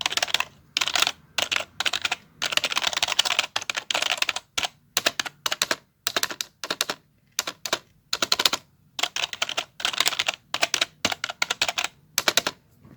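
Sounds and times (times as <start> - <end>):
typing on a keyboard: 0.0 - 12.6.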